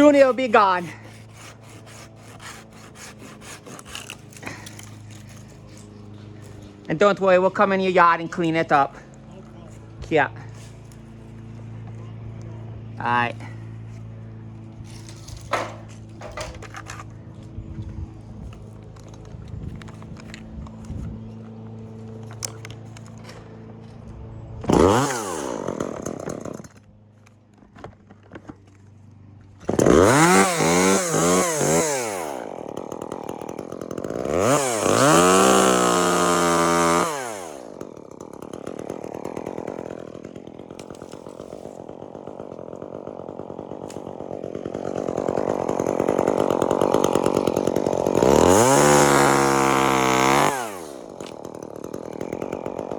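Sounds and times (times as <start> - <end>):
chainsaw engine revving: 0.0 - 17.1, 24.6 - 26.9, 29.5 - 52.9.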